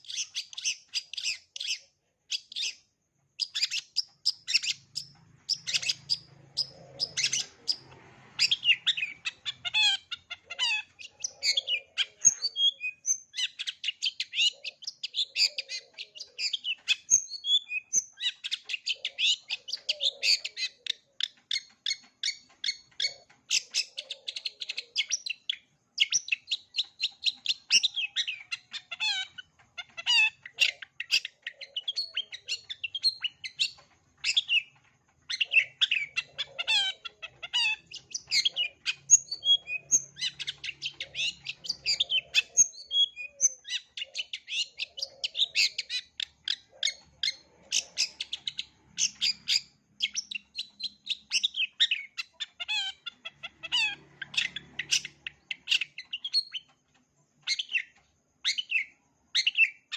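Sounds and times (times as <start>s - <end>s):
bird singing chattering song: 0.0s - 59.9s.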